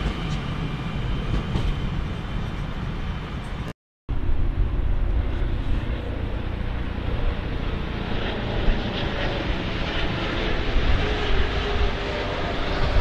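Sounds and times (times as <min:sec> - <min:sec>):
train passing with low rumble: 0:00.0 - 0:13.0.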